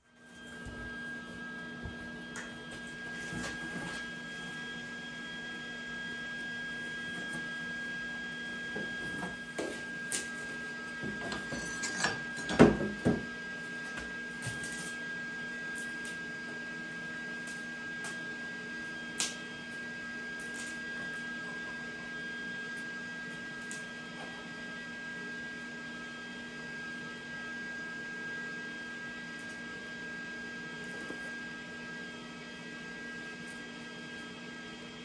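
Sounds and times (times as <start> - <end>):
electrical hum with high whine: 0.0 - 35.0.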